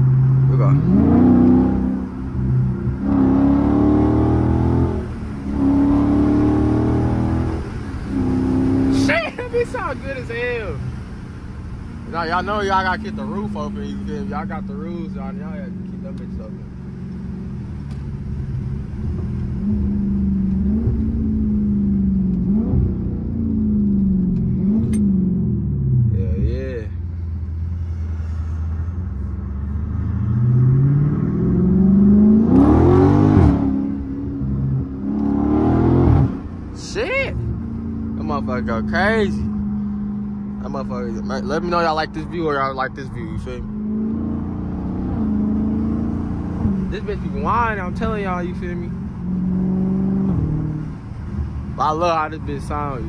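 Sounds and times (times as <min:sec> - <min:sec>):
car engine accelerating hard: 0:00.0 - 0:53.0.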